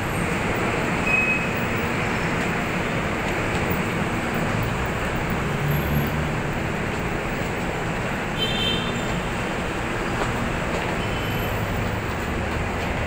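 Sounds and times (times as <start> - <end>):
rail and road traffic rumble: 0.0 - 13.0.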